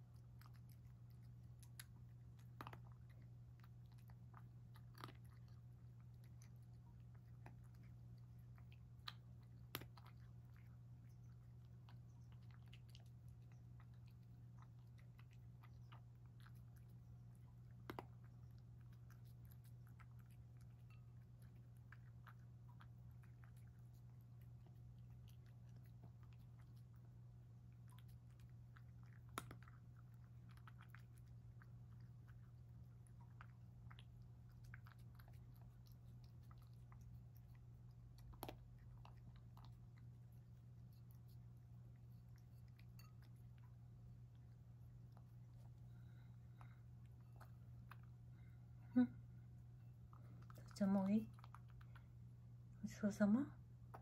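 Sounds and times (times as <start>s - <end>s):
cat chewing and licking: 0.0s - 54.0s
steady low hum: 0.0s - 54.0s.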